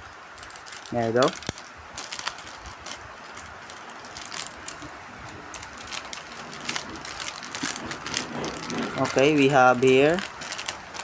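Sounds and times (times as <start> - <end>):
packaging rustle: 0.0 - 11.0.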